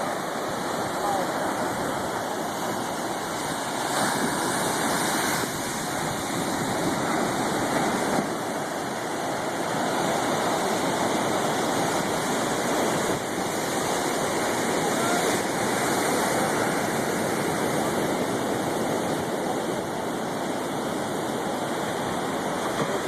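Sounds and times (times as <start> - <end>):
churning water rushing: 0.0 - 23.0.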